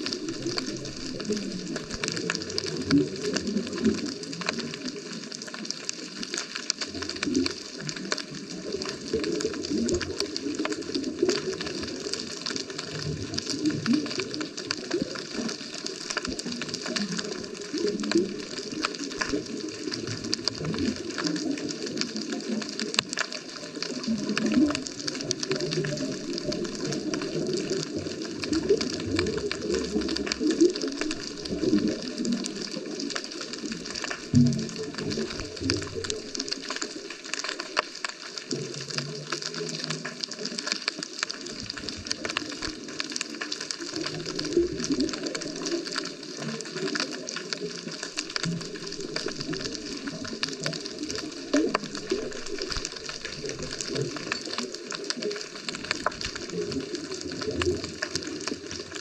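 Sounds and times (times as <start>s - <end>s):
underwater bubbling: 0.0s - 59.0s
underwater crackle of clicks: 0.0s - 59.0s.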